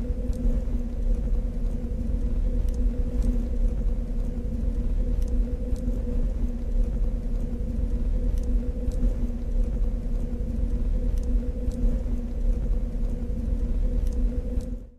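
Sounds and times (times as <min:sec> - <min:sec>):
deep machine rumble: 0:00.0 - 0:14.9
two-tone electrical hum: 0:00.0 - 0:14.9
faint high ticks: 0:00.1 - 0:14.8.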